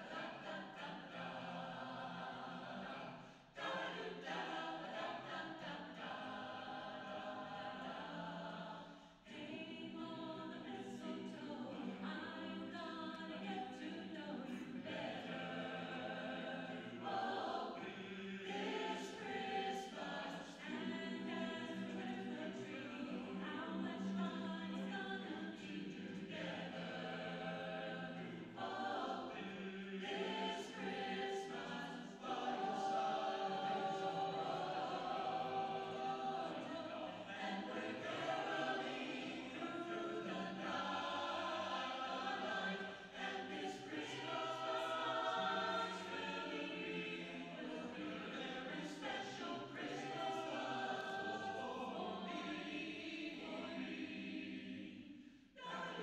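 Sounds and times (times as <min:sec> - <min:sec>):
mixed choir singing in harmony: 0:00.0 - 0:56.0.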